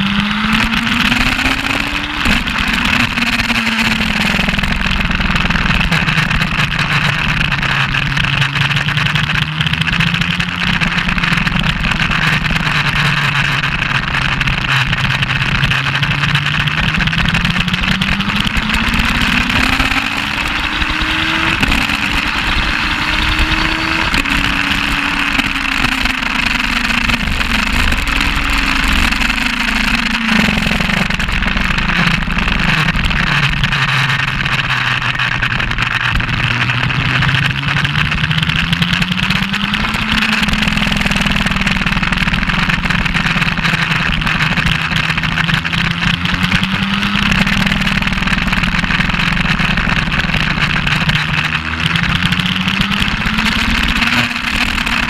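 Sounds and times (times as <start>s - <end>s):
motorcycle engine revving: 0.0s - 55.0s
wind rush on microphone: 0.0s - 55.0s.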